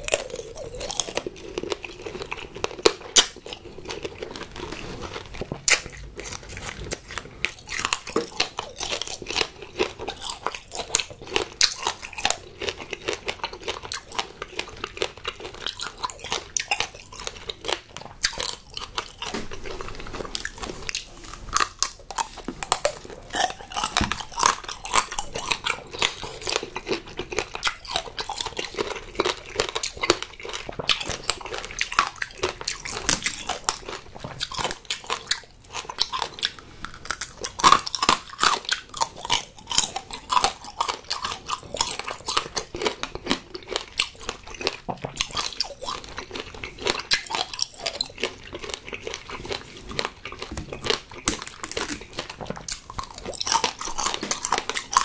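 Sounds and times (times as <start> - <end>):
crunching candy shell: 0.0 - 19.3, 20.4 - 55.0.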